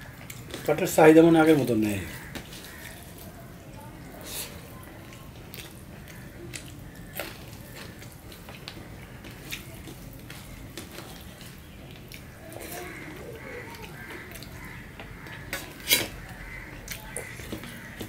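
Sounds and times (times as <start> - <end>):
wet mixing and squelching of food: 0.1 - 18.0.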